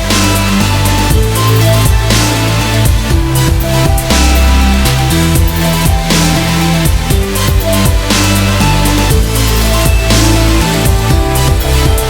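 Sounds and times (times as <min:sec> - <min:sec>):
house music with heavy bass: 0:00.0 - 0:12.0.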